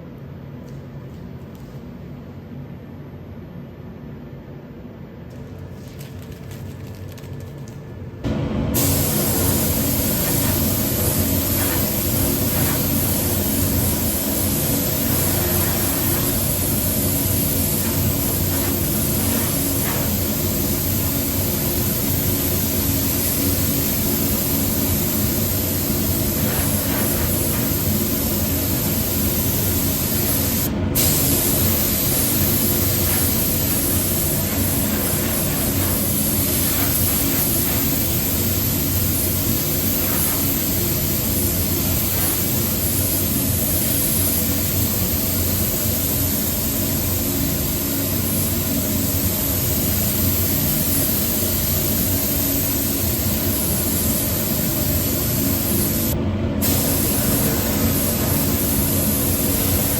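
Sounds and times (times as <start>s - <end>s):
paint spray gun hissing: 8.8s - 59.9s.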